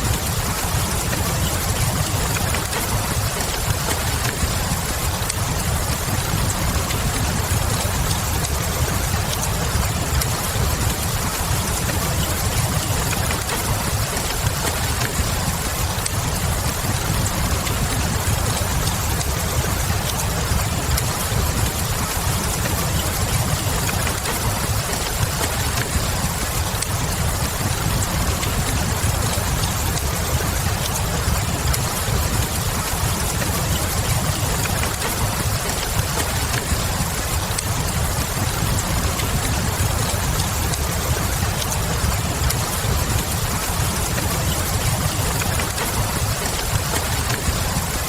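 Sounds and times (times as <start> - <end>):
faint wood fire crackle: 0.0 - 48.0
steady rain: 0.0 - 48.0.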